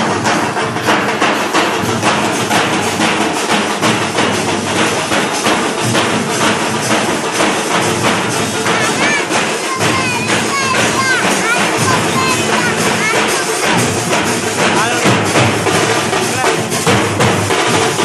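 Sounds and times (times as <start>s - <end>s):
procession drums playing fast: 0.0s - 18.0s.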